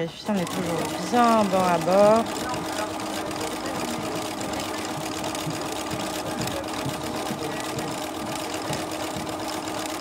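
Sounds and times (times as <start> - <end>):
sewing machine stitching: 0.0 - 10.0.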